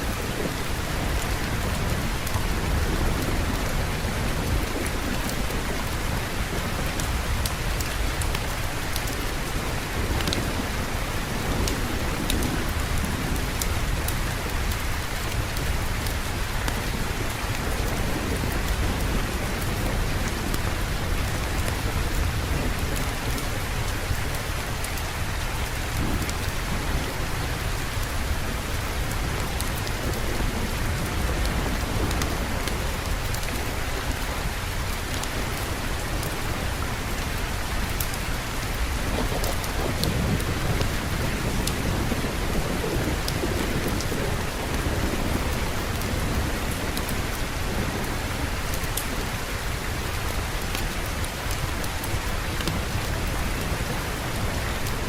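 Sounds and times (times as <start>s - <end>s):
low thunder rumble: 0.0s - 55.0s
steady rain falling: 0.0s - 55.0s.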